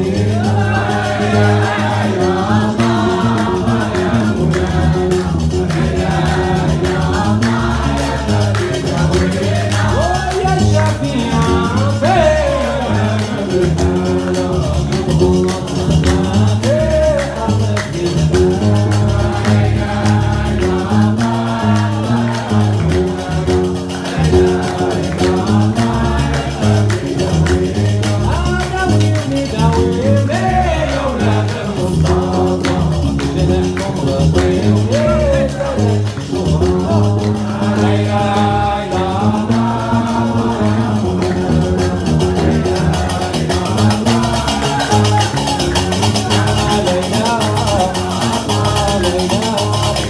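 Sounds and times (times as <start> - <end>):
iron castanets clacking: 0.0 - 50.0
plucked bass lute: 0.0 - 50.0
voices singing: 0.0 - 50.0.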